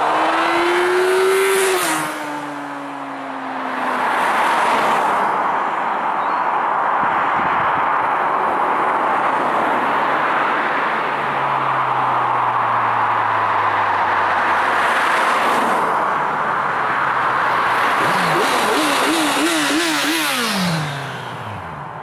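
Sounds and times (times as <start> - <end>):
cars passing on road: 0.0 - 22.0.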